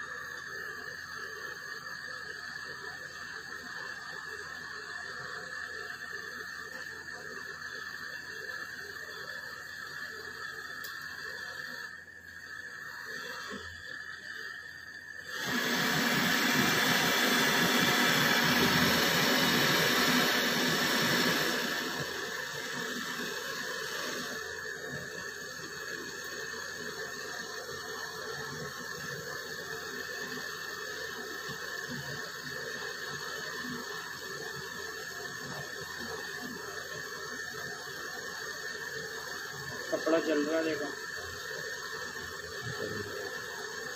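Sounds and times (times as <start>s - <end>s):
gas torch hissing: 0.0s - 43.9s.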